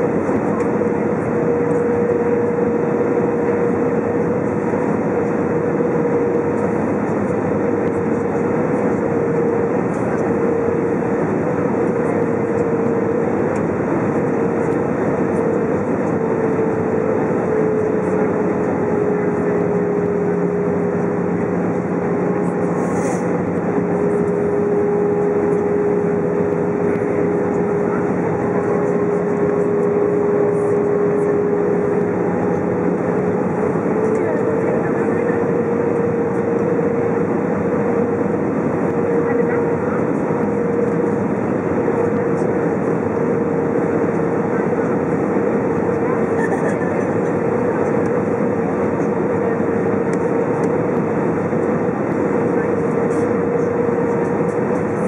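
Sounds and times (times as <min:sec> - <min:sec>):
airplane cabin airflow and engine: 0:00.0 - 0:55.0
steady hum: 0:00.0 - 0:55.0.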